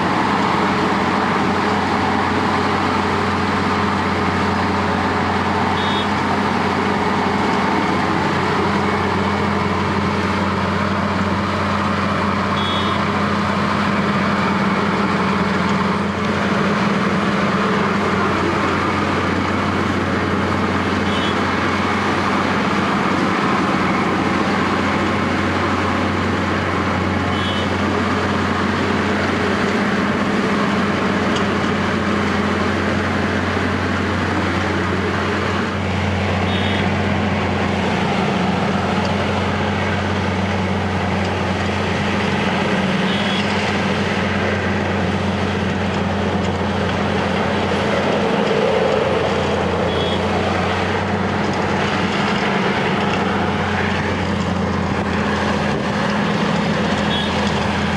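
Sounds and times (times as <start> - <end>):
asphalt milling grind: 0.0 - 57.9
diesel engine droning: 0.0 - 57.9.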